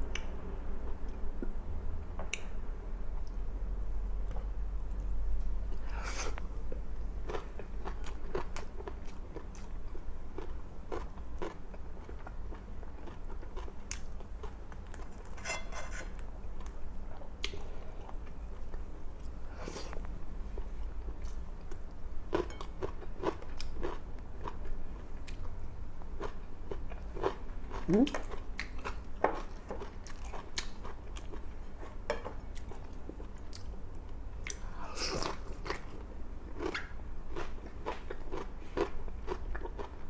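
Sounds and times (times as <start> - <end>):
person chewing food: 5.8 - 25.5, 26.2 - 40.0.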